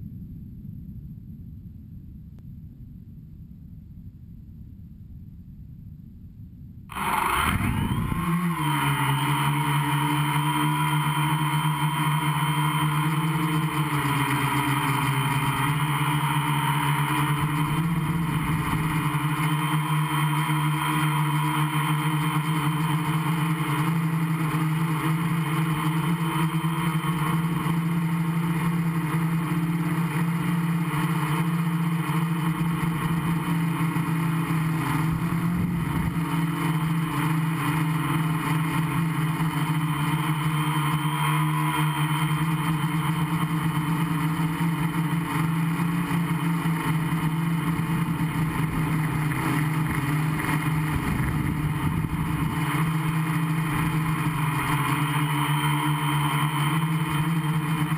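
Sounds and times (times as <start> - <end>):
quadcopter propellers buzzing: 6.9 - 57.9.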